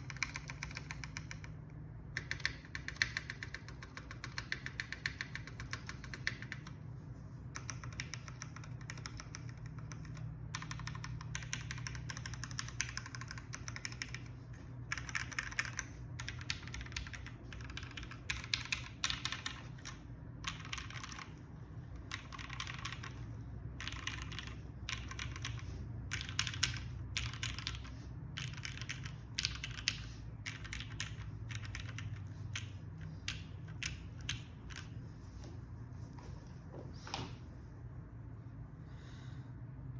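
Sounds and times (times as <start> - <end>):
mechanical keyboard typing: 0.0 - 6.8, 7.5 - 35.0.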